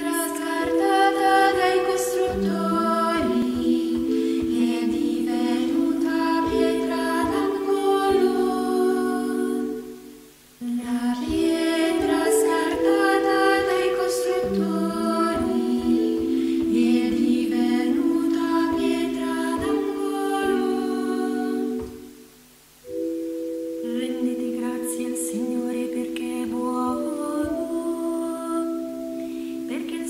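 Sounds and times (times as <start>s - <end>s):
unaccompanied choral singing: 0.0s - 22.3s, 23.8s - 30.0s.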